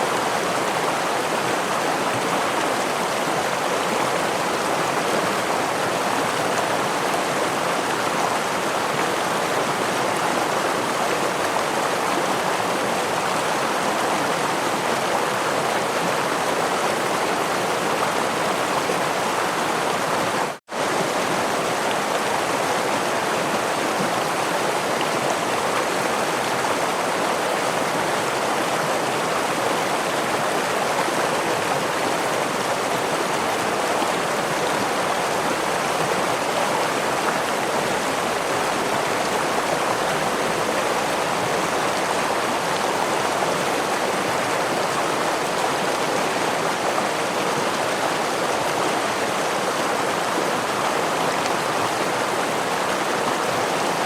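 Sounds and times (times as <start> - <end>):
stream and small waterfall rushing: 0.0 - 54.0.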